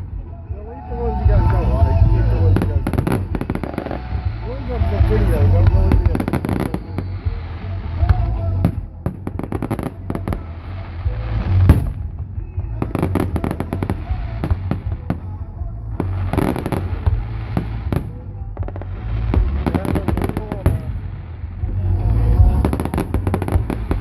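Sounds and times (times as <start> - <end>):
steady low rumble: 0.0 - 24.0
rapid firework crackling: 2.5 - 24.0.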